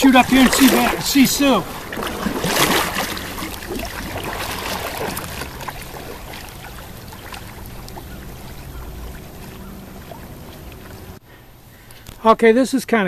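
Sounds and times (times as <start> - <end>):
small paddle splashes: 0.0 - 11.2
water trickling and dripping: 0.0 - 11.2.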